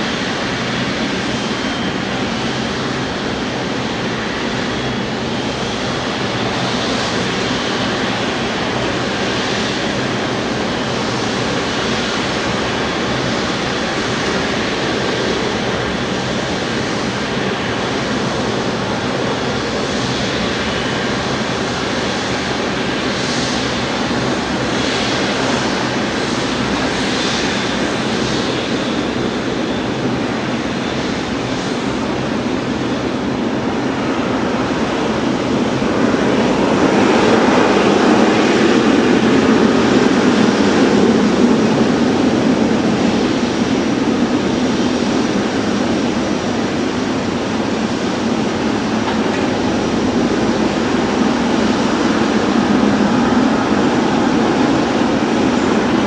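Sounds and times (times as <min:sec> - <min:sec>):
airliner engine hum: 0:00.0 - 0:56.0.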